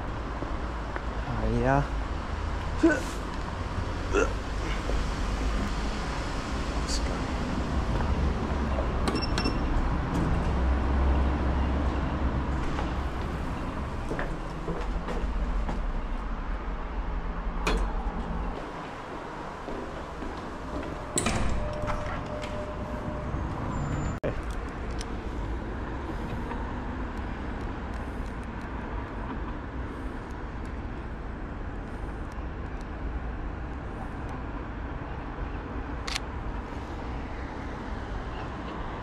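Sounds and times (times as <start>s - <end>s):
passing traffic rumble: 0.0s - 39.0s.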